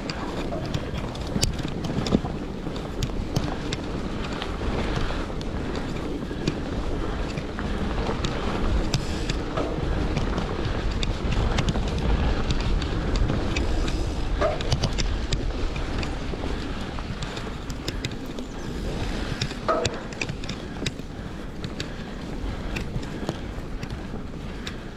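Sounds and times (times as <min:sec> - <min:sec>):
bike clicks and rattles: 0:00.0 - 0:24.9
tyres rumbling on dirt: 0:00.0 - 0:24.9
wind rushing over microphone: 0:00.0 - 0:24.9.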